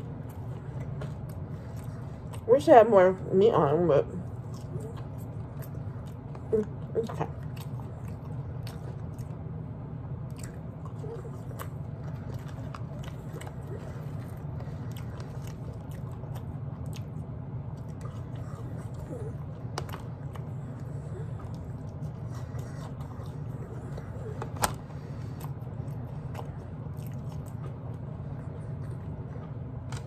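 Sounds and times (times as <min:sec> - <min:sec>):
chewing and crunching fries: 0:00.0 - 0:30.0
low hum: 0:00.0 - 0:30.0.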